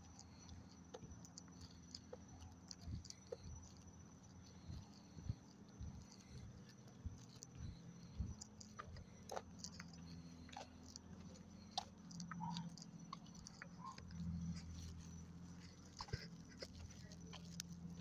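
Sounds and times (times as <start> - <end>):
pet crunching dry food: 0.0 - 18.0.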